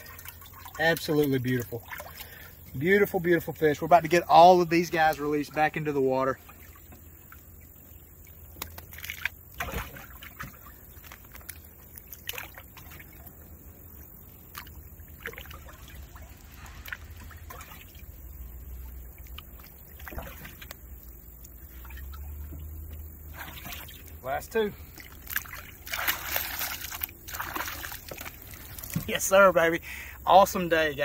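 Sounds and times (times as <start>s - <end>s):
fish splashing in water: 0.0s - 2.7s, 4.7s - 29.3s.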